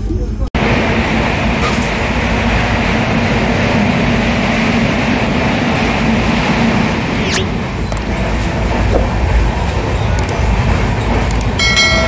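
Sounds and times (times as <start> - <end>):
train coach rumbling and rattling: 0.0 - 12.0.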